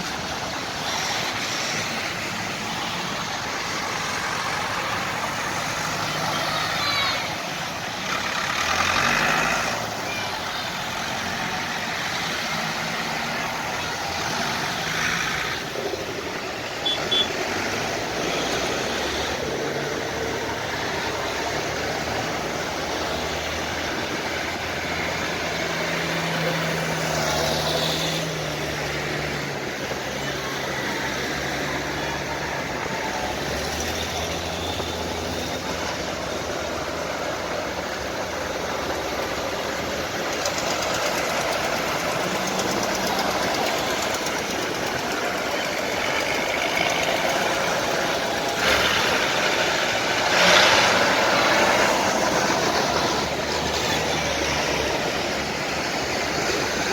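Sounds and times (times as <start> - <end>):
tractor engines running: 0.0 - 56.9.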